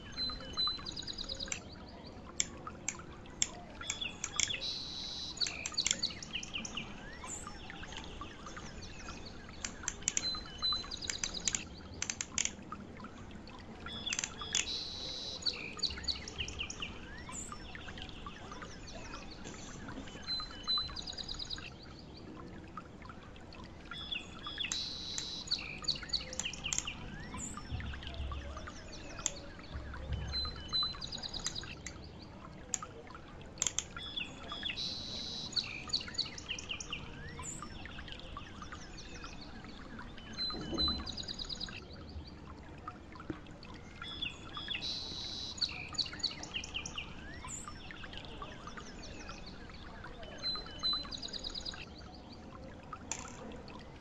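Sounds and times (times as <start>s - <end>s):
birds chirping and singing: 0.0s - 12.5s, 13.8s - 22.2s, 23.8s - 32.8s, 33.6s - 42.3s, 43.8s - 52.4s.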